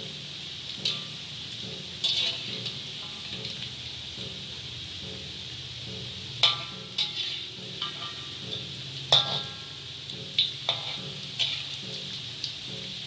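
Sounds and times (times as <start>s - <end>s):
metal spatula clinking against wok: 0.0s - 13.0s
pastries deep-frying in hot oil: 0.0s - 13.0s.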